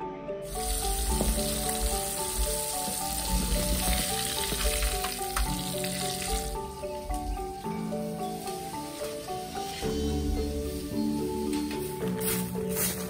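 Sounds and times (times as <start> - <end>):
soft background music: 0.0 - 13.0
oil sizzling in a wok: 0.4 - 12.0.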